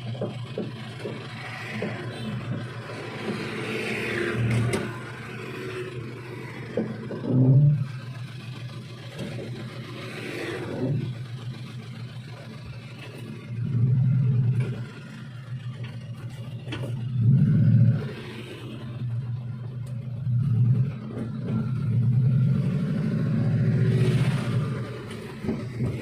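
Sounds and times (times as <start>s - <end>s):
minivan engine idling and revving: 0.0s - 26.0s.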